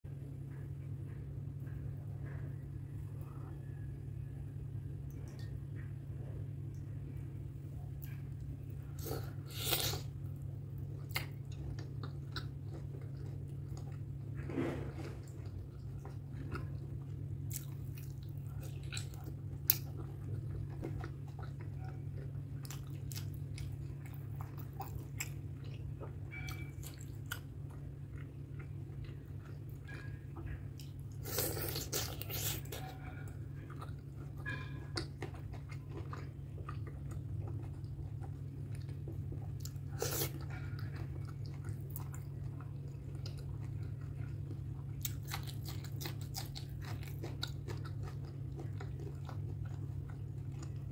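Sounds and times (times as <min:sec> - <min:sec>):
steady low hum: 0:00.0 - 0:50.9
chewing and wet mouth sounds: 0:00.4 - 0:50.9.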